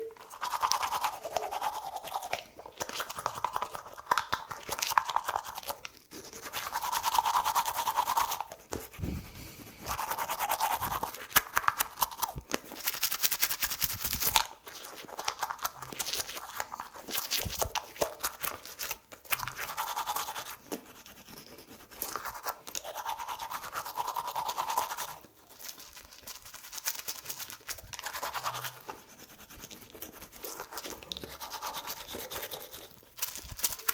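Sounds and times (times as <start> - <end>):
toothbrush scrubbing teeth: 0.0 - 33.9.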